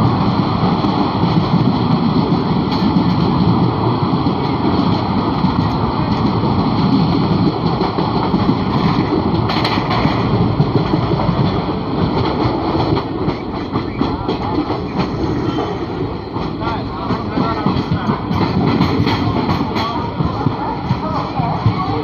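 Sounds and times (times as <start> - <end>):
train rushing and rumbling: 0.0 - 22.0
wind buffeting microphone: 0.0 - 22.0.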